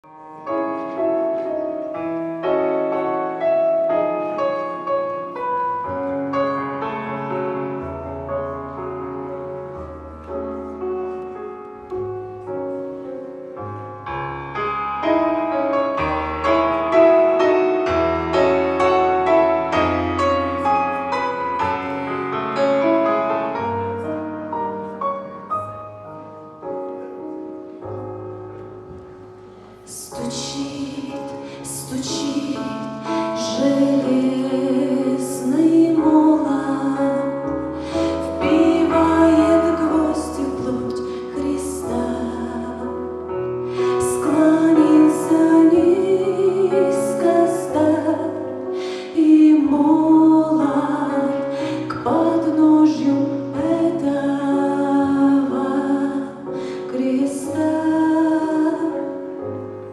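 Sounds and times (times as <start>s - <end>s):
slow piano music: 0.0s - 59.9s.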